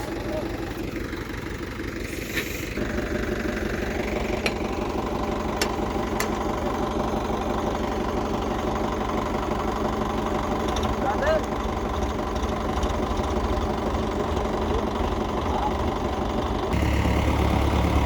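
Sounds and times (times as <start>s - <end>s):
diesel engine chugging: 0.0s - 18.0s.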